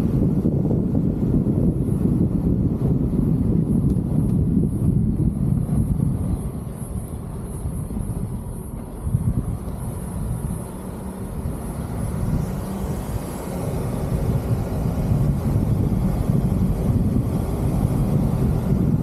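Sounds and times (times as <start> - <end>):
car rumbling on gravel road: 0.0 - 19.0
wind noise: 0.0 - 19.0.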